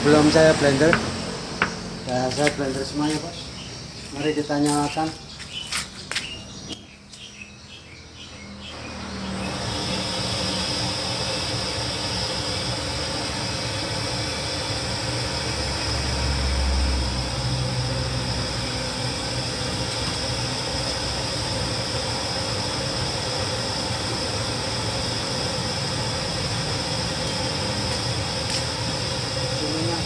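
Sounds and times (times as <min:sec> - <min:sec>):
gas burner hissing: 0:00.0 - 0:06.8, 0:08.7 - 0:30.0.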